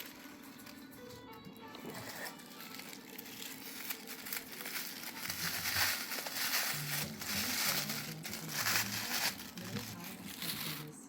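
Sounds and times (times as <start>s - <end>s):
faint background music: 0.0s - 11.0s
packaging crinkling and rustling: 0.0s - 11.0s.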